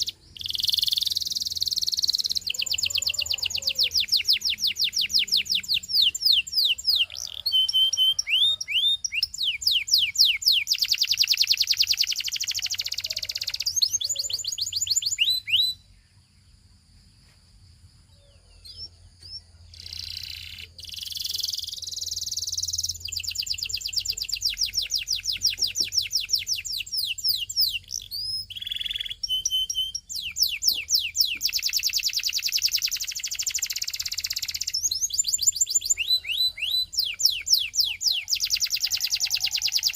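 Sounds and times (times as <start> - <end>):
canary singing trills: 0.0 - 16.4, 18.1 - 39.9.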